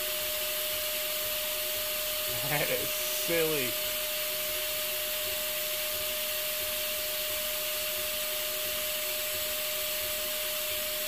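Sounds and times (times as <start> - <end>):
printer fan hiss with steady tone: 0.0 - 11.0.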